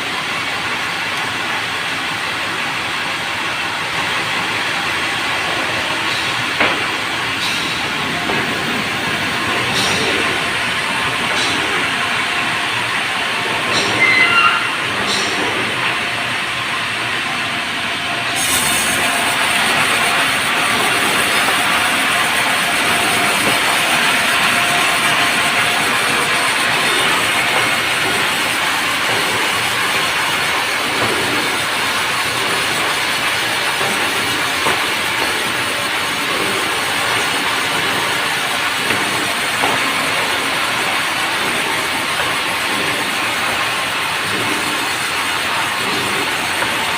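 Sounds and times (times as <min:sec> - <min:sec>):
sawmill saw cutting timber: 0:05.4 - 0:46.9.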